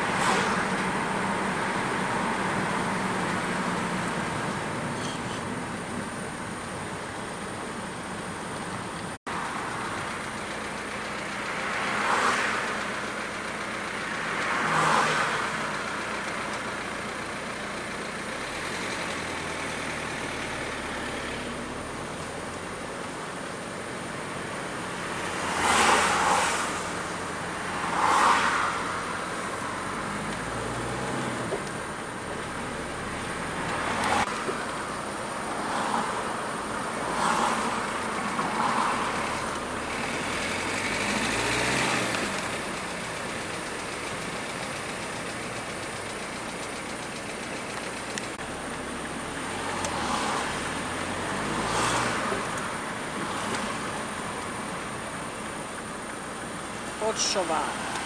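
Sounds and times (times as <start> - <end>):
vehicles whooshing past: 0.0 - 22.8, 24.0 - 58.0.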